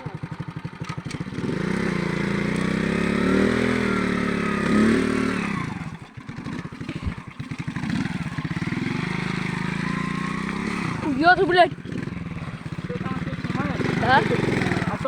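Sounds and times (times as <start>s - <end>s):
motorcycle engine revving and idling: 0.0s - 15.0s.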